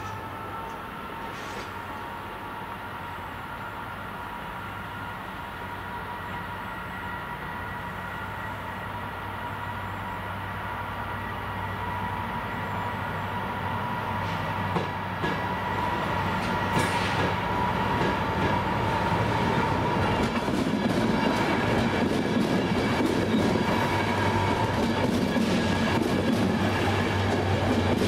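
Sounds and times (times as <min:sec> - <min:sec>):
passenger train passing: 0:00.0 - 0:28.0.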